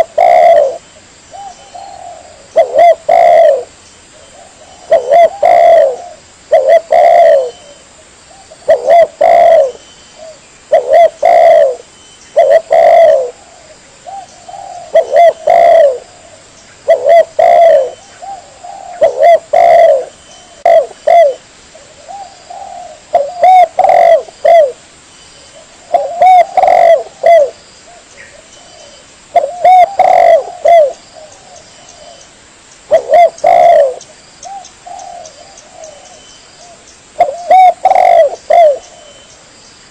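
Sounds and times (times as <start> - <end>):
dove cooing: 0.0 - 24.8, 25.5 - 32.3, 32.9 - 39.3.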